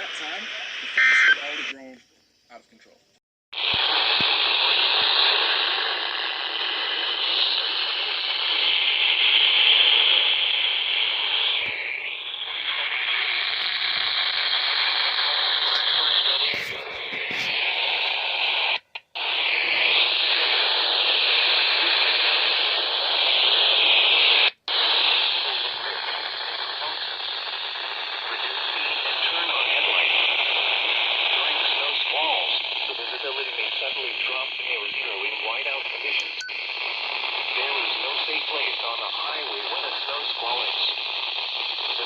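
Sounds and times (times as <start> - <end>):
radio static hiss: 0.0 - 3.0, 3.6 - 42.0.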